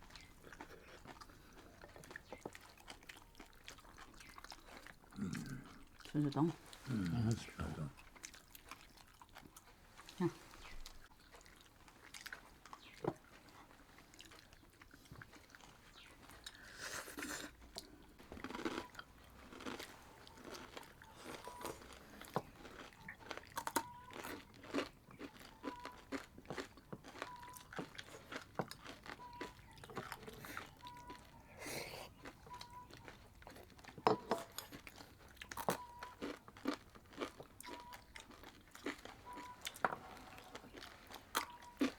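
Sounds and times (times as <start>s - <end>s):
crackers crunching while chewed: 0.0s - 41.9s.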